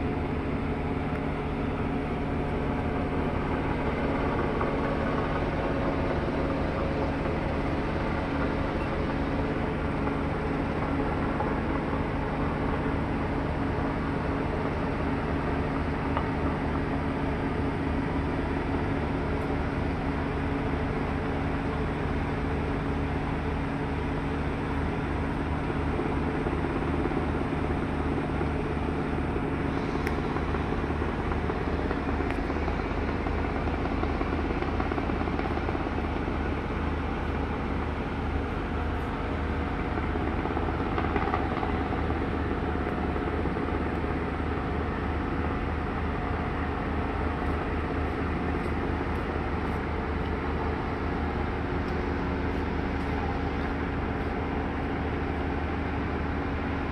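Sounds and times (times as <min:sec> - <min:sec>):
helicopter rotor chopping: 0:00.0 - 0:24.1, 0:24.8 - 0:56.9
heavy machinery hum: 0:00.0 - 0:56.9.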